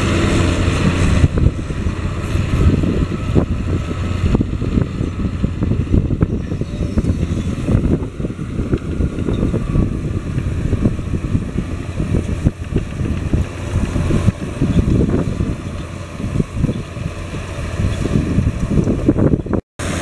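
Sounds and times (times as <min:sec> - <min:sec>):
farm implement rumbling in soil: 0:00.0 - 0:20.0
tractor diesel engine pulling: 0:00.0 - 0:20.0.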